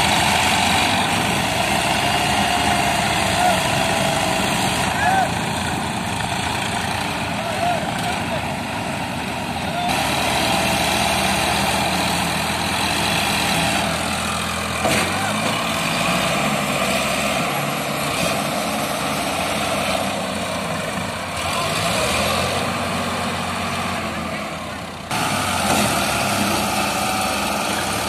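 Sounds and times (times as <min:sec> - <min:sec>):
tractor diesel engines under load: 0:00.0 - 0:28.0.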